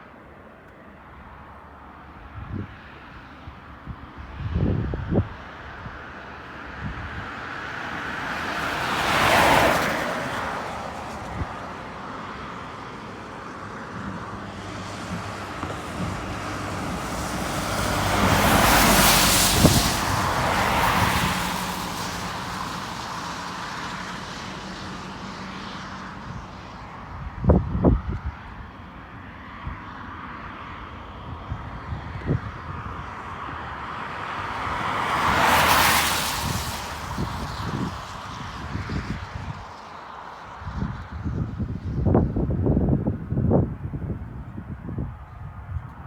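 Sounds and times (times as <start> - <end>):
vehicles passing: 0.1 - 46.0.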